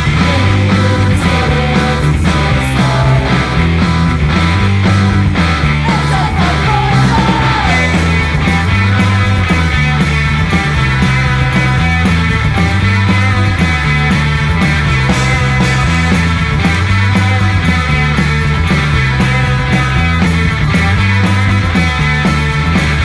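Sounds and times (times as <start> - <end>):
punk rock band playing: 0.0 - 23.0.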